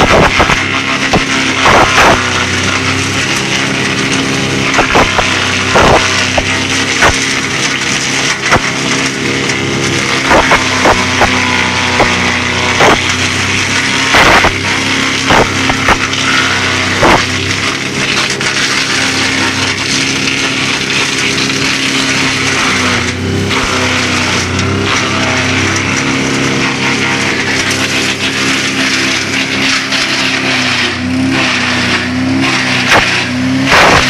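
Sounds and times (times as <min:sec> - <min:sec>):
chipping mechanism running: 0:00.0 - 0:34.0
diesel engine running: 0:00.0 - 0:34.0.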